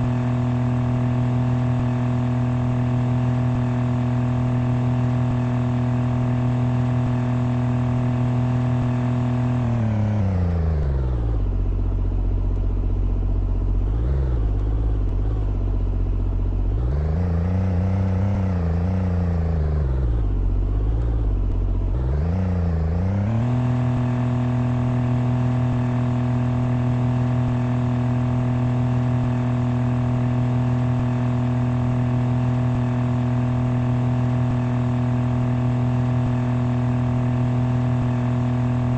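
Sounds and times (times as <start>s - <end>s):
motor engine running: 0.0s - 38.9s.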